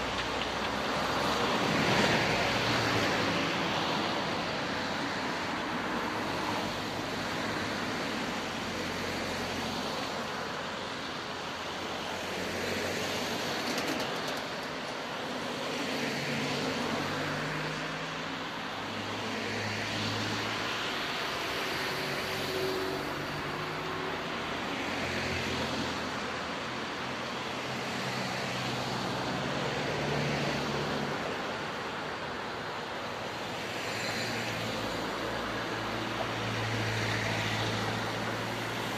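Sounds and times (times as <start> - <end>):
cars passing on wet road: 0.0 - 38.9.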